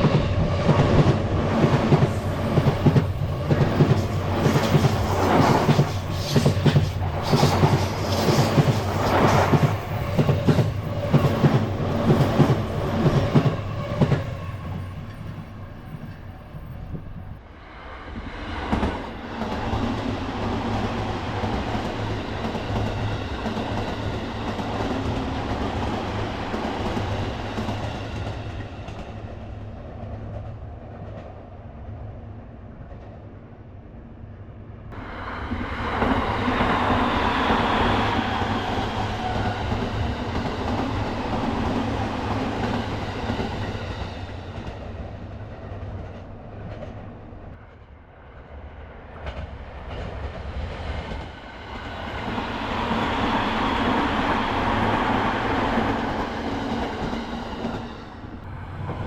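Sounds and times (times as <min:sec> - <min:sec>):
steady train rumble: 0:00.0 - 0:59.0.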